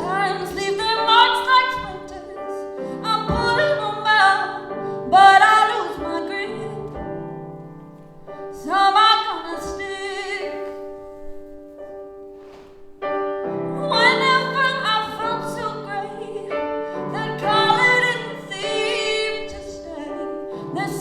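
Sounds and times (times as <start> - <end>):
woman singing: 0.0 - 11.4, 13.5 - 21.0
piano chords: 0.0 - 21.0.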